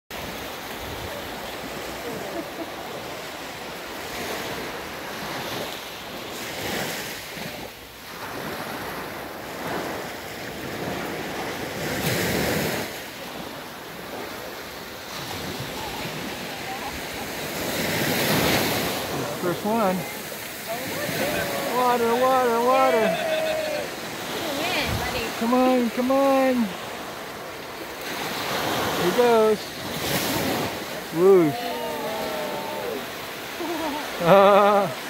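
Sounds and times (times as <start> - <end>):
ocean surf washing onto beach: 0.1 - 35.0.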